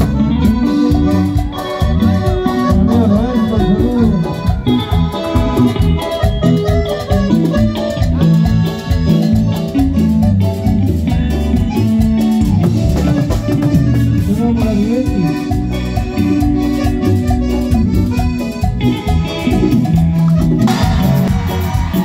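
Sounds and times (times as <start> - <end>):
accordion: 0.0 - 22.0
congas: 0.0 - 22.0
keyboard: 0.0 - 22.0
latin dance band playing: 0.0 - 22.0.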